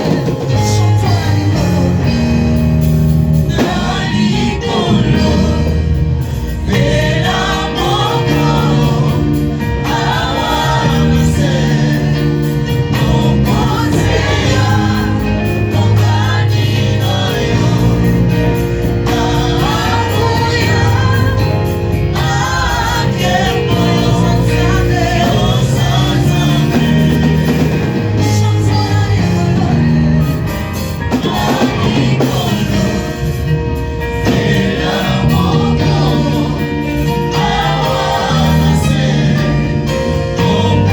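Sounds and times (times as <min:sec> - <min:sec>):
band accompaniment: 0:00.0 - 0:40.9
choir singing gospel: 0:00.0 - 0:40.9.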